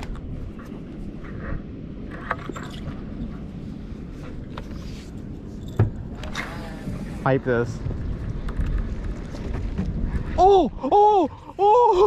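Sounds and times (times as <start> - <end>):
boat rumble: 0.0 - 12.0.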